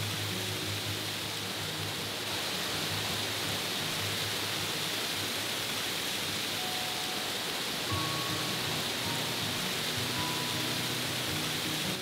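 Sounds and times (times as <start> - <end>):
waterfall splashing: 0.0 - 12.0.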